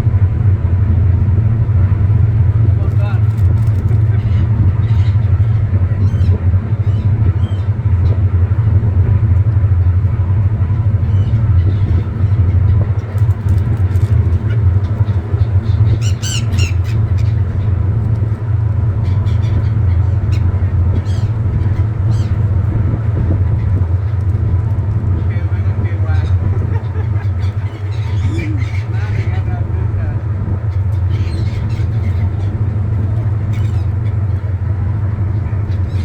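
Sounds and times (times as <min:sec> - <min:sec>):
gulls calling: 0:00.0 - 0:36.0
loud steady low rumble: 0:00.0 - 0:36.0.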